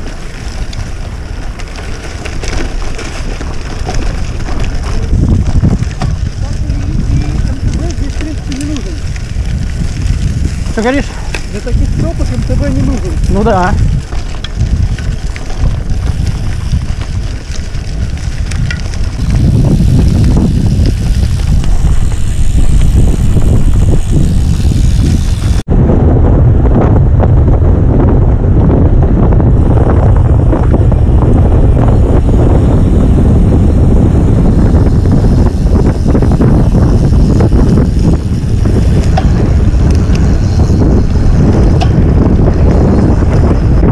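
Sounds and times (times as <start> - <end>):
tyres on gravel: 0.0 - 25.7, 29.7 - 43.9
wind rumble on microphone: 0.0 - 43.9.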